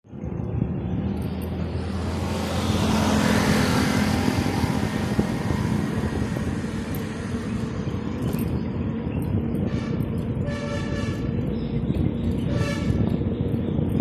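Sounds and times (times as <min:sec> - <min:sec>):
vehicle passing on road: 0:00.1 - 0:13.8
steady low rumble: 0:00.1 - 0:14.0.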